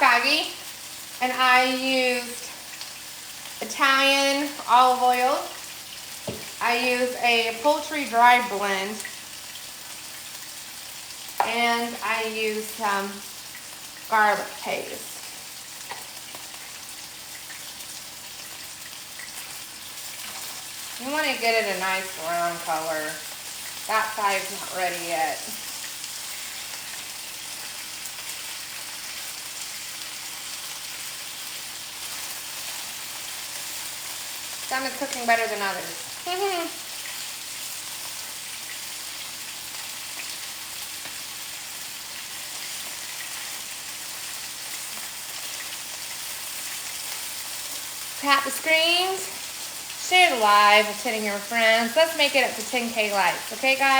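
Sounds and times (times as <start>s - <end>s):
food frying in oil: 0.0s - 53.9s.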